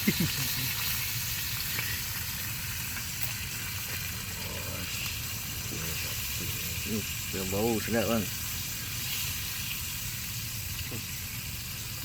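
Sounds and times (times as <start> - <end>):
fish sizzling in a pan: 0.0 - 12.0.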